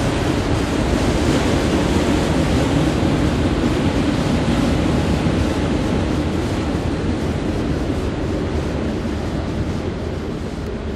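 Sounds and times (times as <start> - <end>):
freight cars rumbling on rails: 0.0 - 10.9.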